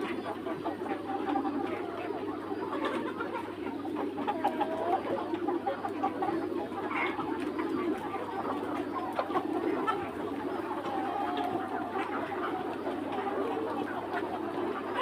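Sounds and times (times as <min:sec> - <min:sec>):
chickens clucking: 0:00.0 - 0:15.0
sharp chicken calls: 0:00.0 - 0:15.0.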